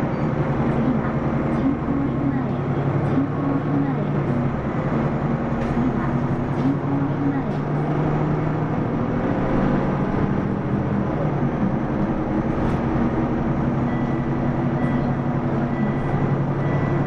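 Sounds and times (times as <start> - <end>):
bus engine and drivetrain hum: 0.0 - 17.0
road noise: 0.0 - 17.0.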